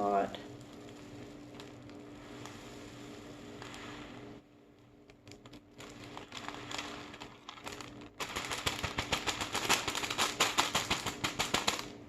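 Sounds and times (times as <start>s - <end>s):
foam beads pouring: 0.3s - 4.5s, 5.3s - 11.9s.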